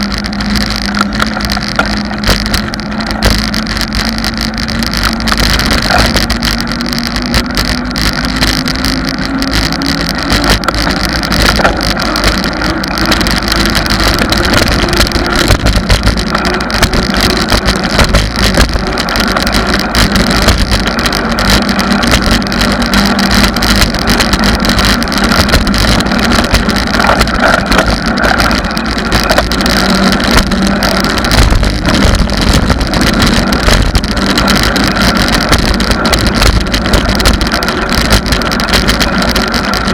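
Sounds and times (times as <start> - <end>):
low hum rising in pitch: 0.0 - 39.9
tyres rumbling on asphalt: 0.0 - 39.9
wind buffeting microphone: 0.0 - 39.9.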